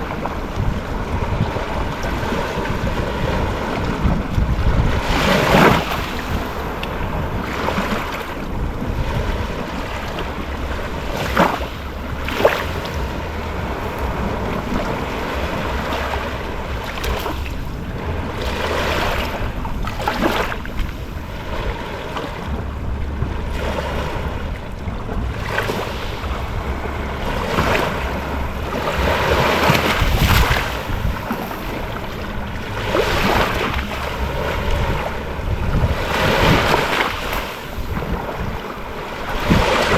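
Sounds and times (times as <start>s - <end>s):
ocean waves washing on shore: 0.0s - 39.9s
wind buffeting microphone: 0.0s - 39.9s.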